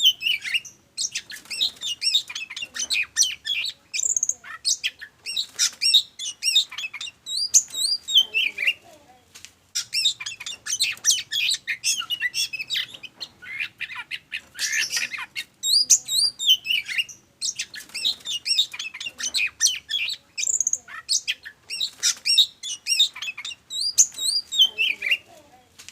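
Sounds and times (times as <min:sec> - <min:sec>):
magpie-robin singing: 0:00.0 - 0:08.9, 0:09.8 - 0:25.4.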